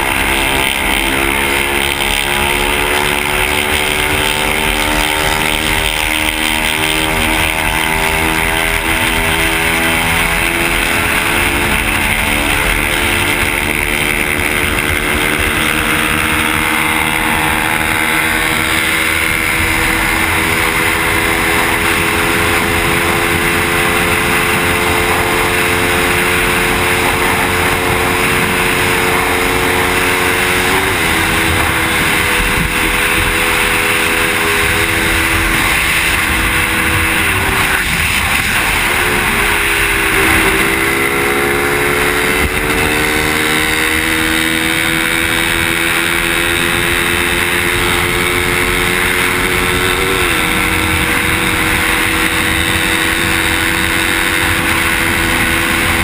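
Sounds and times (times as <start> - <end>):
motorcycle engine at speed: 0.0 - 56.0
wind and road noise: 0.0 - 56.0.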